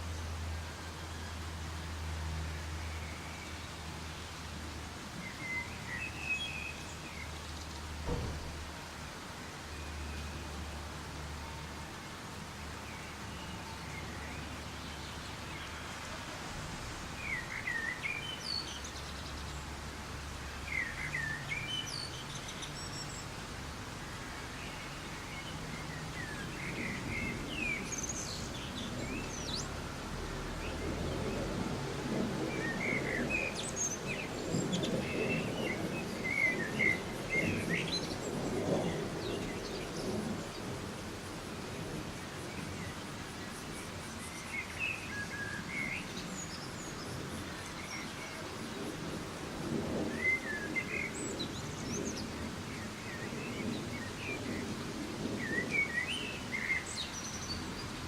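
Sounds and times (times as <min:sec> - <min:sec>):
soft rain falling: 0:00.0 - 0:58.0
songbirds chirping: 0:00.0 - 0:58.0.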